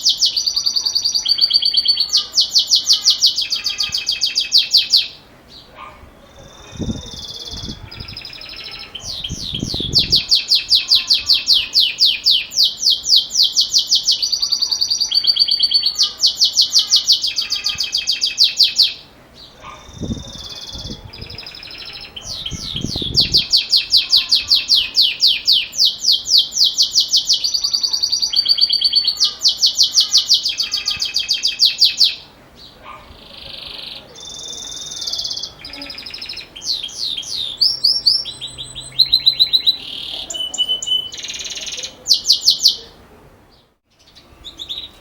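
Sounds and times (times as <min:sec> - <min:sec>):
canary singing high trills: 0:00.0 - 0:43.0, 0:43.6 - 0:45.0.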